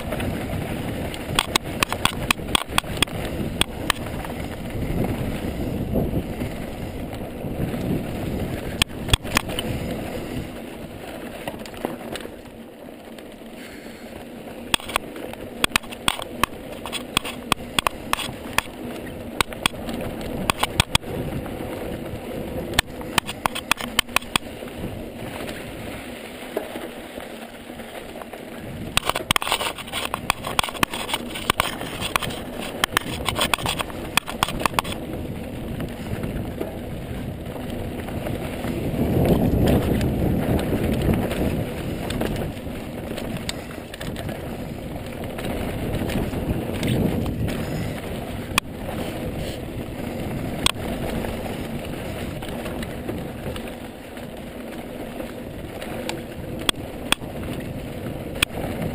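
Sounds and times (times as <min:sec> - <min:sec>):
rapid rattling clicks: 0:00.0 - 0:05.6, 0:07.7 - 0:14.0, 0:14.6 - 0:25.7, 0:26.5 - 0:37.8, 0:38.4 - 0:58.9
wind on microphone: 0:00.0 - 0:12.2, 0:13.7 - 0:26.2, 0:28.5 - 0:58.9
bike tyres crunching over dirt: 0:00.0 - 0:58.9.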